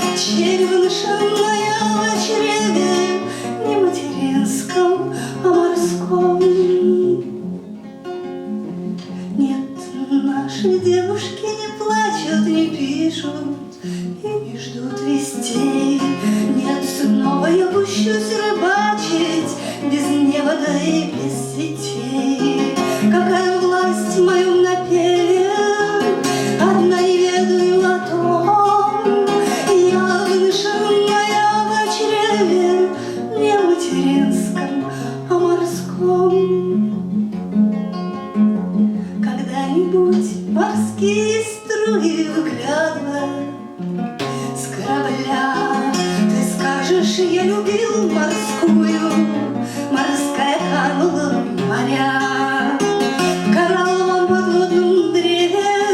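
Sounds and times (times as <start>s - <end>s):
person singing: 0.0s - 7.4s, 9.3s - 36.9s, 44.2s - 55.9s
acoustic guitar playing: 0.0s - 55.9s.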